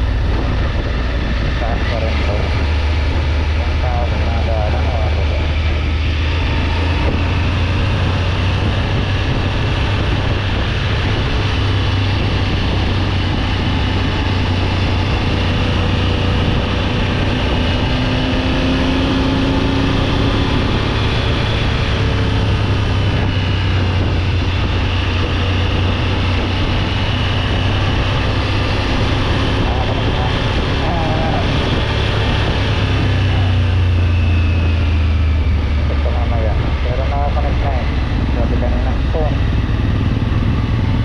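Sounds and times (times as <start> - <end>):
motorcycle engine running: 0.0 - 41.0
rushing wind noise: 0.0 - 41.0.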